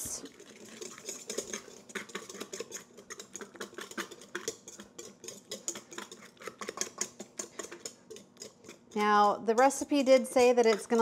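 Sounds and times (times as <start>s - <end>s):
whisk clicking in metal bowl: 0.2s - 11.0s.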